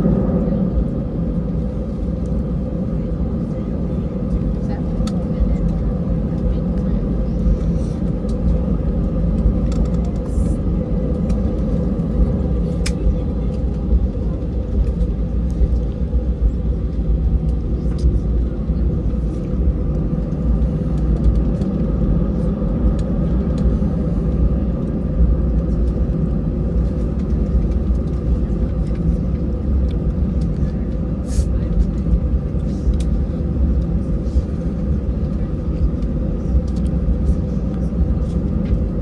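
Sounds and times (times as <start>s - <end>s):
constant hum: 0.0s - 39.0s
jet engine cabin rumble: 0.0s - 39.0s.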